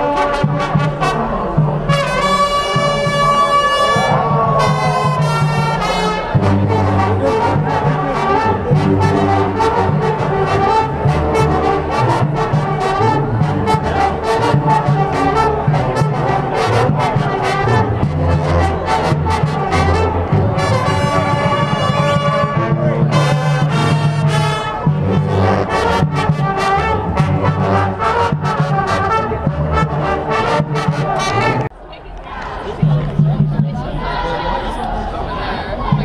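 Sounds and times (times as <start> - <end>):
brass chord stabs: 0.0 - 31.7
marching band tune: 0.0 - 31.7
steady drumbeat: 0.4 - 31.7, 32.7 - 34.1.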